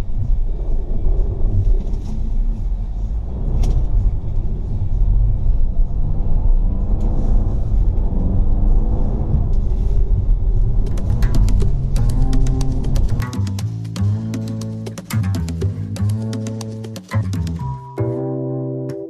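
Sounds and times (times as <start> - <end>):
car engine rumbling: 0.0 - 17.7.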